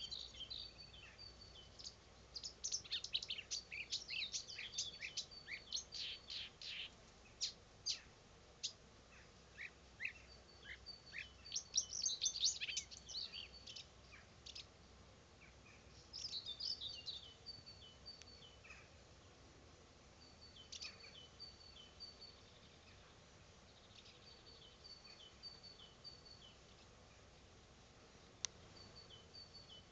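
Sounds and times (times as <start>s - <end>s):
nightingale singing: 0.0s - 14.8s, 15.4s - 19.0s, 20.2s - 27.3s, 28.4s - 29.9s.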